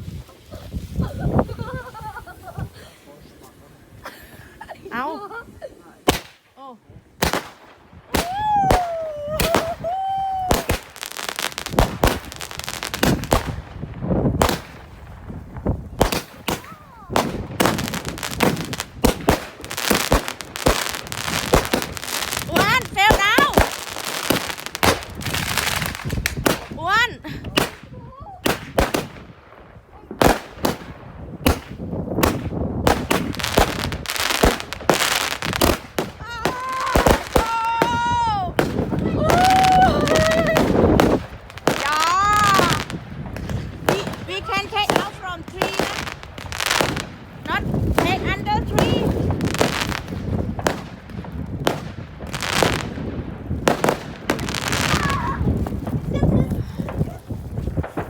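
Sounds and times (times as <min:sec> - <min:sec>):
fireworks bangs: 0:00.0 - 0:06.6, 0:07.2 - 0:58.0
fireworks crackling: 0:00.0 - 0:58.0.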